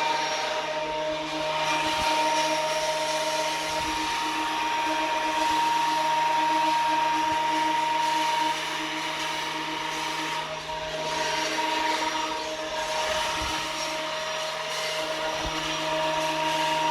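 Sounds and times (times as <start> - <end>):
benchtop planer whining: 0.0 - 16.9.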